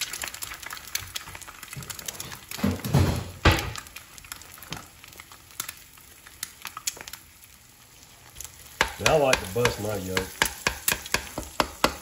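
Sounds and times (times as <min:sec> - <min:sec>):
egg sizzling in oil: 0:00.0 - 0:12.0.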